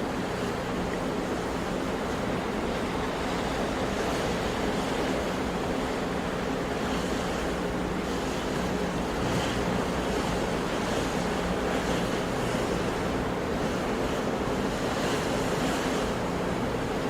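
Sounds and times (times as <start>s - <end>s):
ocean waves and surf: 0.0s - 17.0s.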